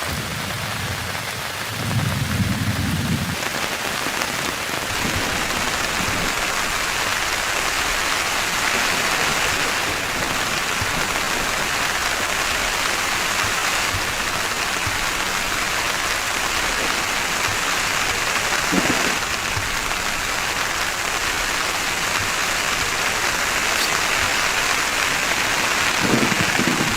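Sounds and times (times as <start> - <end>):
heavy rain drumming on tent: 0.0 - 26.9.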